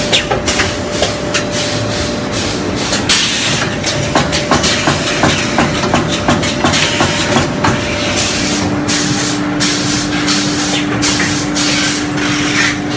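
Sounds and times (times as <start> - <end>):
machinery hum: 0.0 - 12.9
machinery hissing: 1.5 - 5.6, 6.5 - 12.9.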